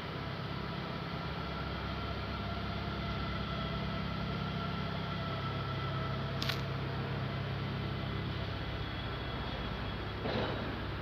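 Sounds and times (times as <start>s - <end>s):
electric train hum: 0.0s - 11.0s.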